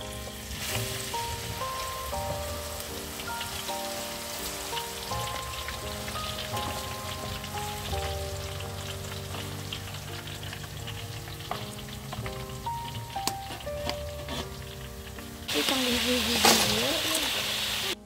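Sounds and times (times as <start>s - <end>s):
background music with held notes: 0.0s - 18.0s
chips sizzling in hot oil: 0.0s - 18.0s.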